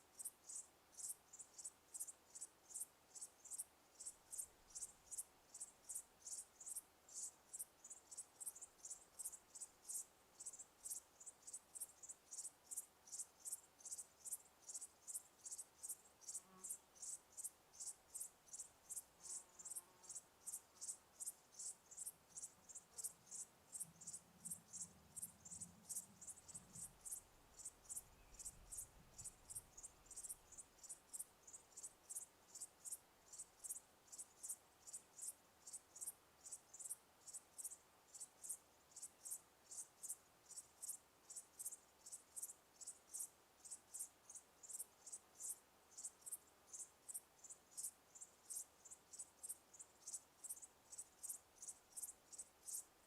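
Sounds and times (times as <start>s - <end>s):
cricket chirping: 0.0s - 53.0s.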